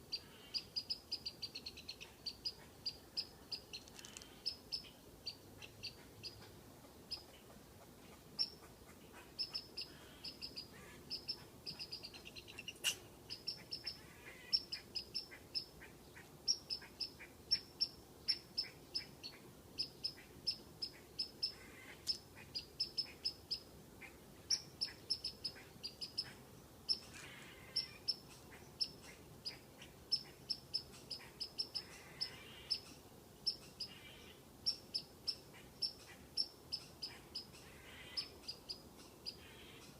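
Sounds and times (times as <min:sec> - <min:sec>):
squirrel alarm chirps: 0:00.1 - 0:06.5, 0:08.4 - 0:08.7, 0:09.4 - 0:15.8, 0:16.4 - 0:23.7, 0:24.5 - 0:39.9.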